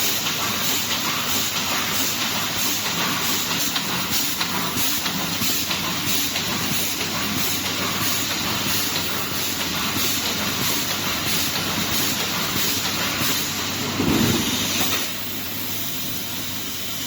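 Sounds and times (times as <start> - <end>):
welding machine hissing clatter: 0.0 - 17.0.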